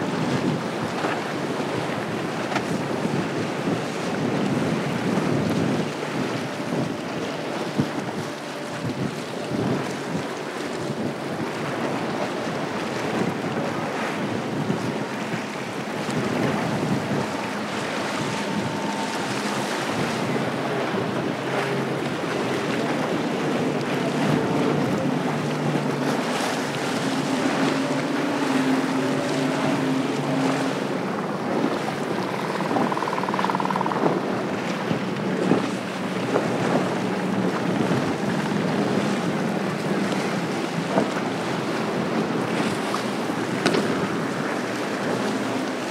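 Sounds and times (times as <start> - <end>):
outboard motors passing: 0.0 - 45.9
water spray and waves: 0.0 - 45.9
wind noise on microphone: 0.0 - 45.9.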